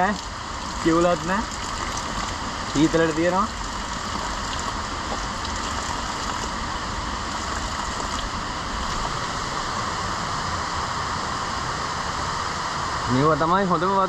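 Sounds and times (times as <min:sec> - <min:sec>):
spring water rushing: 0:00.0 - 0:13.0.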